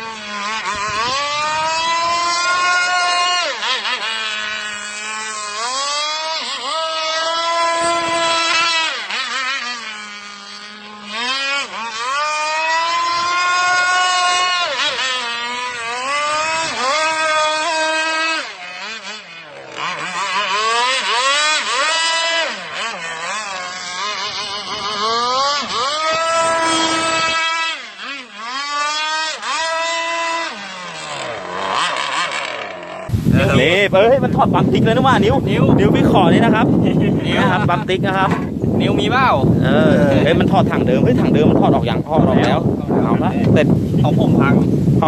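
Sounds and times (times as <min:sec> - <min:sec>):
model boat engine revving: 0:00.0 - 0:45.0.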